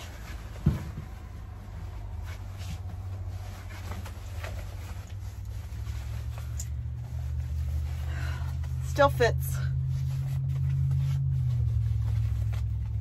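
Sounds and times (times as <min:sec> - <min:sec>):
cloth rustling: 0:00.0 - 0:13.0.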